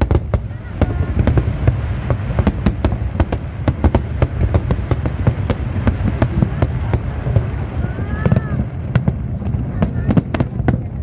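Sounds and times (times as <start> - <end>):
fireworks sharp bangs: 0.0 - 11.0
low rumble of fireworks: 0.0 - 11.0.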